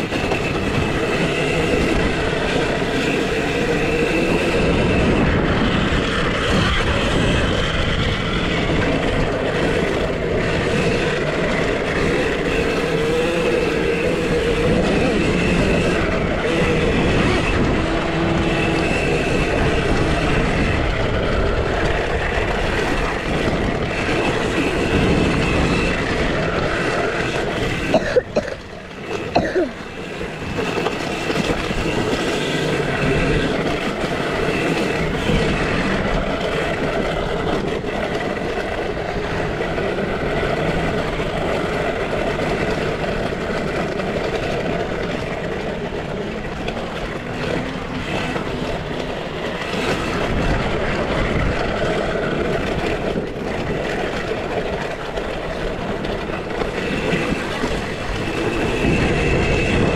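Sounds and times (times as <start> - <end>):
chain and tyre noise: 0.0 - 59.9
electric motor whine: 0.0 - 59.9.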